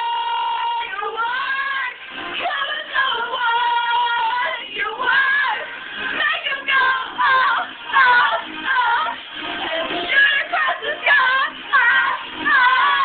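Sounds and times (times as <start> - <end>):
girls singing long notes: 0.0 - 13.0.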